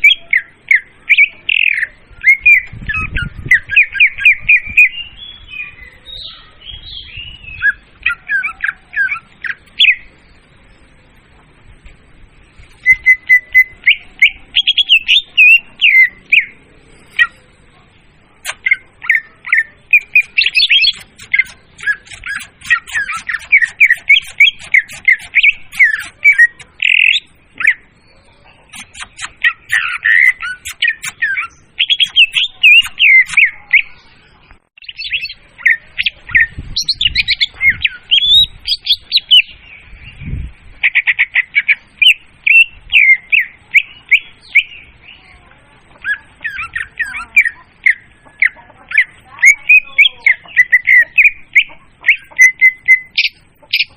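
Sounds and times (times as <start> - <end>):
bird song chirps and whistles: 0.0 - 10.2, 12.7 - 17.4, 18.4 - 34.1, 34.8 - 45.3, 46.0 - 53.9.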